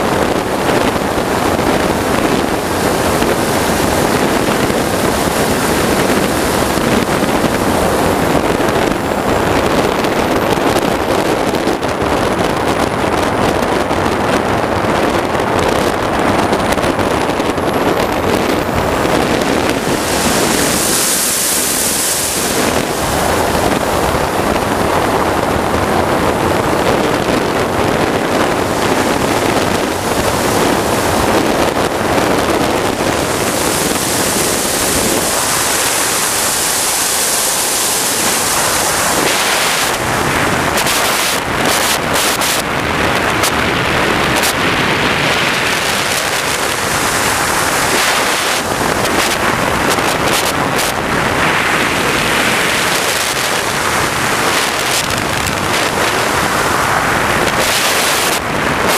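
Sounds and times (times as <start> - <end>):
high whine: 0.0 - 58.9
jet turbine roar: 0.0 - 58.9.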